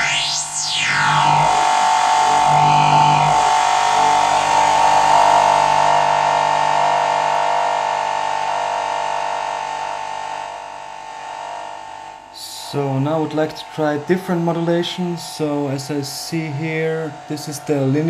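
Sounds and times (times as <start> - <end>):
distorted synthesizer tone: 0.0 - 16.1.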